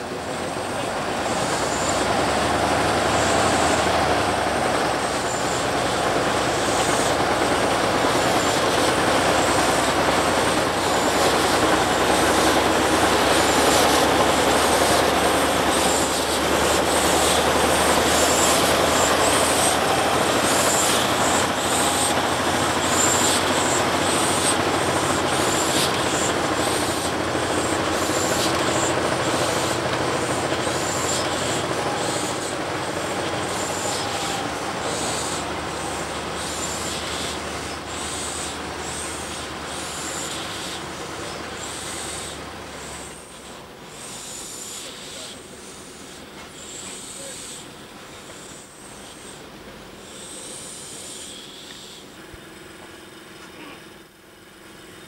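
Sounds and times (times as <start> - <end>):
locomotive engine running: 0.0 - 55.0.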